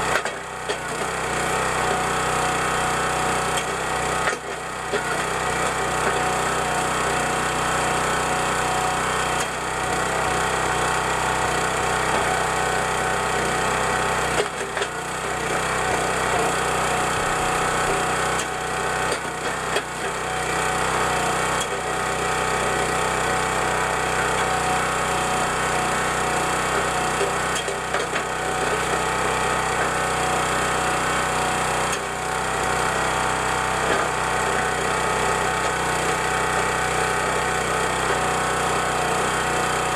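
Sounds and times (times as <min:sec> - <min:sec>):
log splitter engine running: 0:00.0 - 0:39.9.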